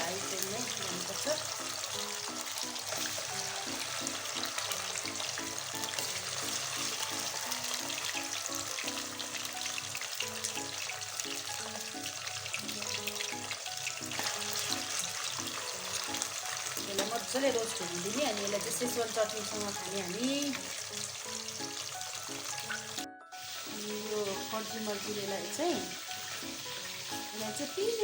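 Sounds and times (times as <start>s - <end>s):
background music low melody: 0.0s - 28.0s
deep-frying sizzle in hot oil: 0.0s - 28.0s.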